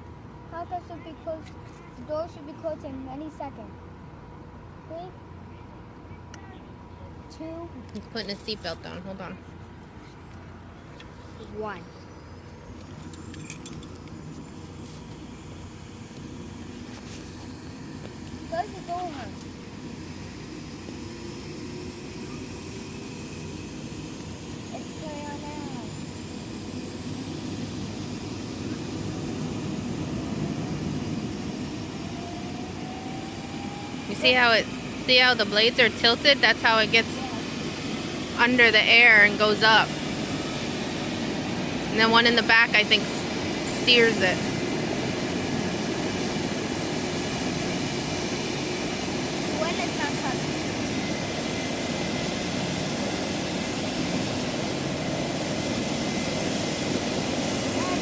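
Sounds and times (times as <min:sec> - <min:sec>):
helicopter engine and rotor rumble: 0:00.0 - 0:58.0
high turbine whine: 0:00.0 - 0:58.0.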